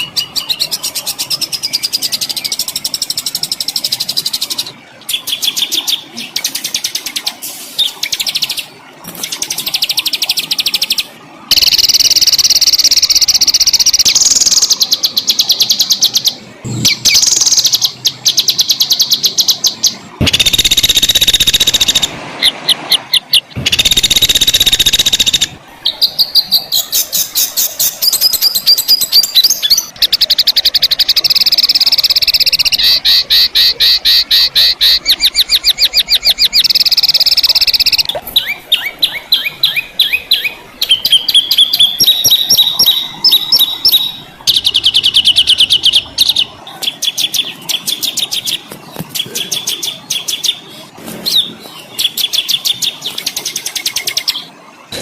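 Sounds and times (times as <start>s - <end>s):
songbird trills and buzzy phrases: 0.0s - 55.0s.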